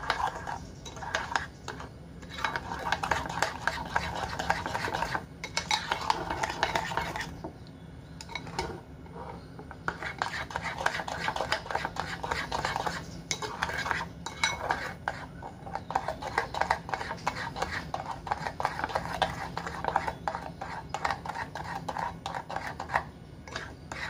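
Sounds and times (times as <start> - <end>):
spoon stirring and scraping bowl: 0.0 - 7.6, 8.2 - 24.0.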